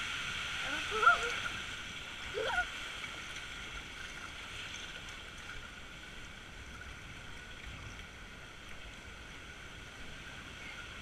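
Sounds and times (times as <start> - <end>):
water rushing down a water slide: 0.0 - 11.0.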